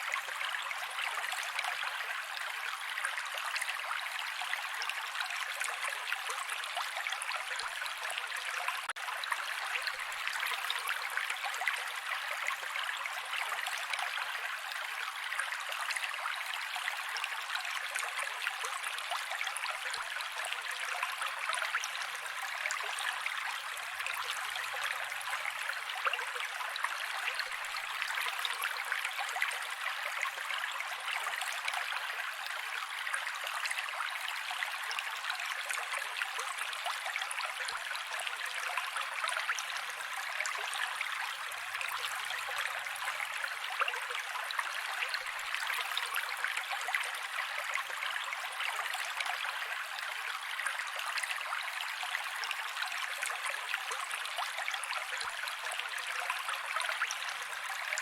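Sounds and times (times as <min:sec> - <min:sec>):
creek water running over rocks: 0:00.0 - 0:58.0.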